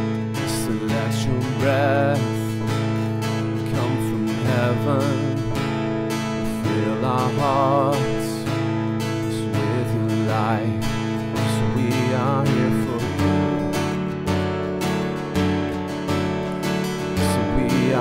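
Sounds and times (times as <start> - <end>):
man singing with vibrato: 0.0 - 14.1, 16.5 - 18.0
strummed acoustic guitar: 0.0 - 18.0
sustained keyboard chords: 0.0 - 18.0.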